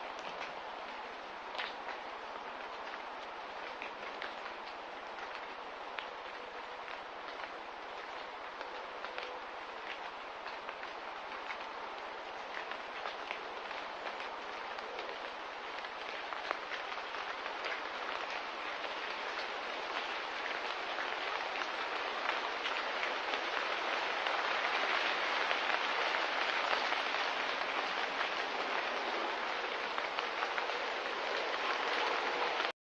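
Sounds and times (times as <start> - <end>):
light rain pattering: 0.0 - 32.8.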